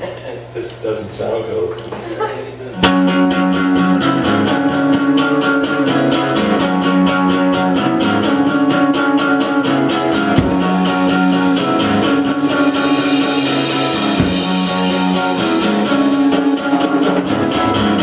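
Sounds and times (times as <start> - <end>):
electric guitar strumming chords: 2.8 - 18.0.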